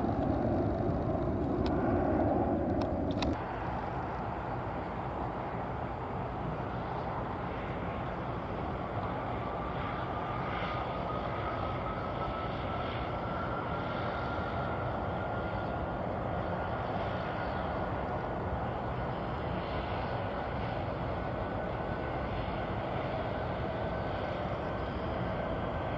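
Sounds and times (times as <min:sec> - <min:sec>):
jet engines running: 0:00.0 - 0:25.9.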